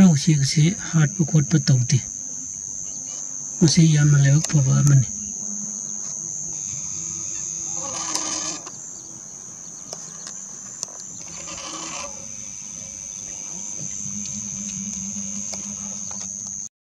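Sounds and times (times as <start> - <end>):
insects chirring: 0.0 - 16.7
low hum: 0.0 - 16.7.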